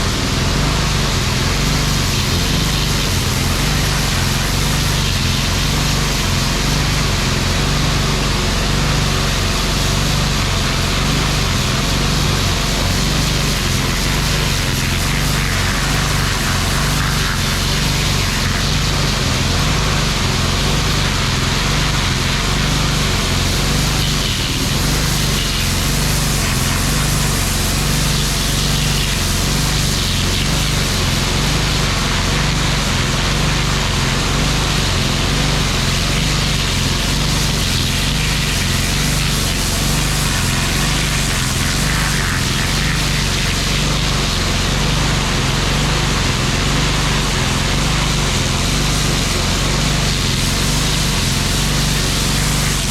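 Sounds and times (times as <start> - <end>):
pressure washer engine humming: 0.0 - 52.9
water jet hissing on concrete: 0.0 - 52.9.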